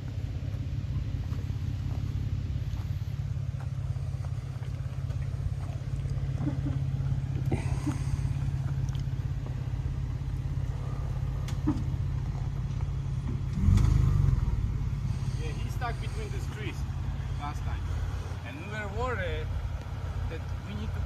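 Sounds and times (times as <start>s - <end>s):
vehicle engine running at low revs: 0.0s - 21.0s.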